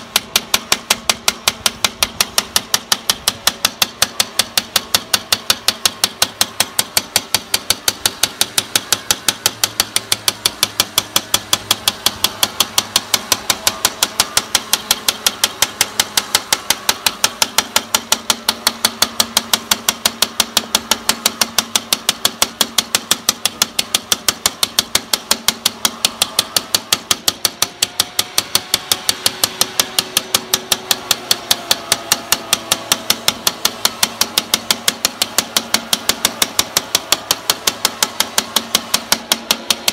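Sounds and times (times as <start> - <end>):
rapid tapping on glass: 0.0 - 39.9.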